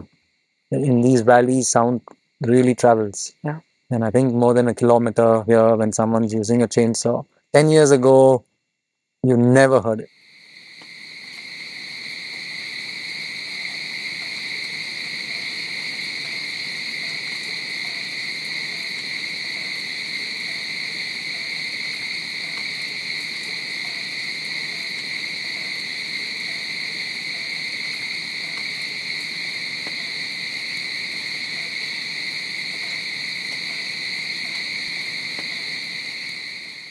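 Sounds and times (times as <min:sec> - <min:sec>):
insect chorus drone: 0:00.0 - 0:36.9.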